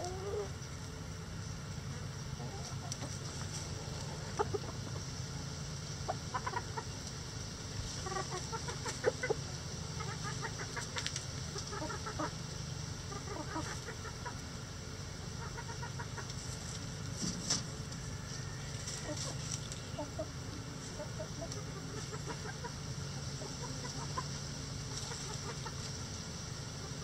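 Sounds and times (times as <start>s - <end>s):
chickens clucking: 0.0s - 27.0s
low background hum: 0.0s - 27.0s.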